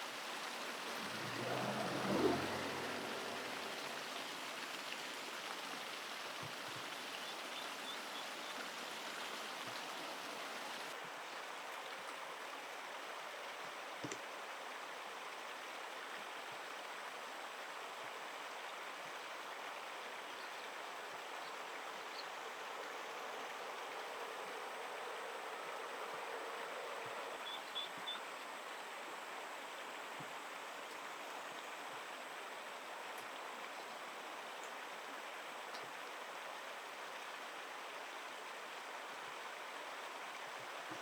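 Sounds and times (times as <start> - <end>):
flowing stream water: 0.0 - 41.0.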